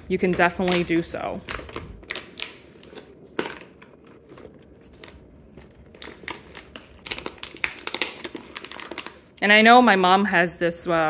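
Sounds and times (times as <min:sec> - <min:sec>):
items rustling in a handbag: 0:00.0 - 0:09.4.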